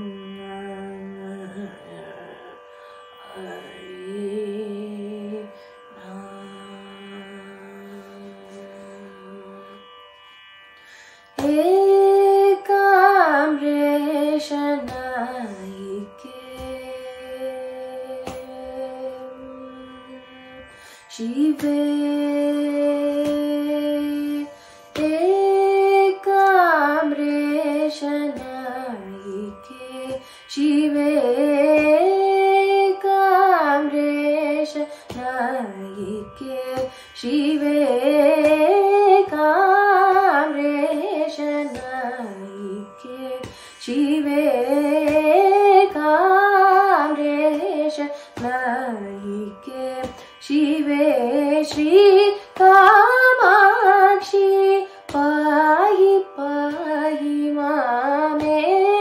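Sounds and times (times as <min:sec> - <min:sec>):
woman singing wordless phrases: 0:00.0 - 0:02.6, 0:03.2 - 0:09.6, 0:11.4 - 0:19.4, 0:21.2 - 0:59.0.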